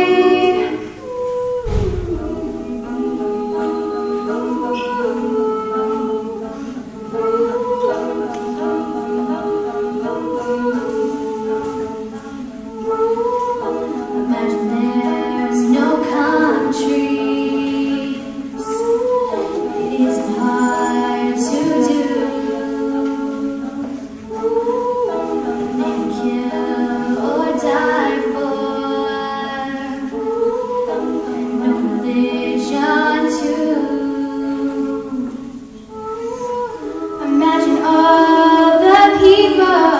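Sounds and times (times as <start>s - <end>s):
female a cappella group singing: 0.0s - 39.9s.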